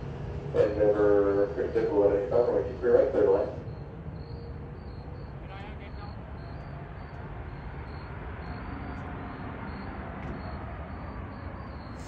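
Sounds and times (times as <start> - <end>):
distant jet engines rumbling: 0.0 - 12.0.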